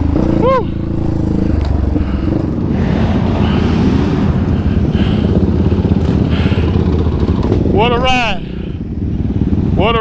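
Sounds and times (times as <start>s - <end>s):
quad engine running at low revs: 0.0s - 10.0s
second quad engine running: 0.0s - 10.0s.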